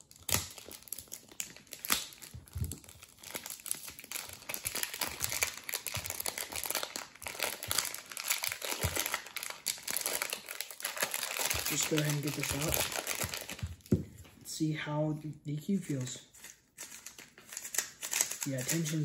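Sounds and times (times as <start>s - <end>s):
packaging crinkling and rustling: 0.0s - 14.3s, 16.3s - 19.0s.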